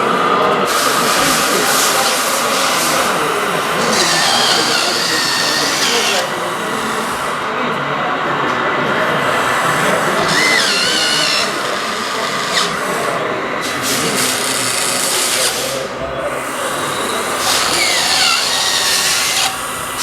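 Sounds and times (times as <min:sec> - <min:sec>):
crowd chatter: 0:00.0 - 0:20.0
small electric motors whining: 0:00.7 - 0:08.2, 0:09.0 - 0:20.0.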